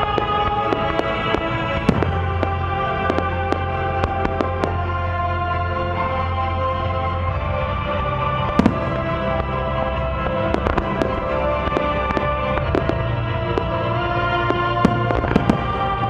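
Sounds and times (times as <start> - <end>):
fireworks bangs and crackles: 0.0 - 16.0
music with held chords: 0.0 - 16.0.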